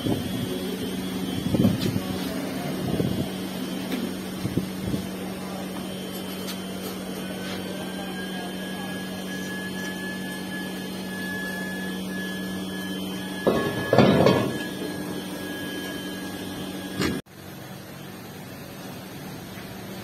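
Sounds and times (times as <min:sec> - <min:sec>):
air blower humming: 0:00.0 - 0:17.2
faint high whine: 0:00.0 - 0:17.2.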